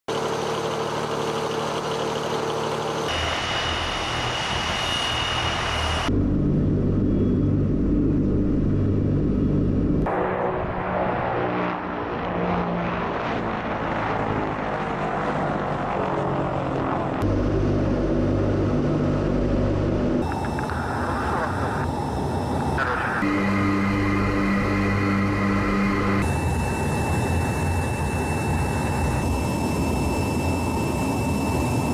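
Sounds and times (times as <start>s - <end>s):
turboprop engines droning: 0.1s - 31.9s.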